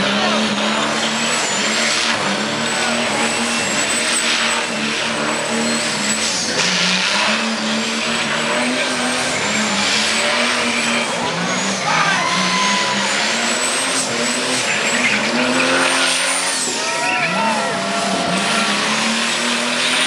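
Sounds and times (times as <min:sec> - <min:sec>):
hissing tyre scrub: 0:00.0 - 0:20.0
kart engine at high revs: 0:00.0 - 0:20.0.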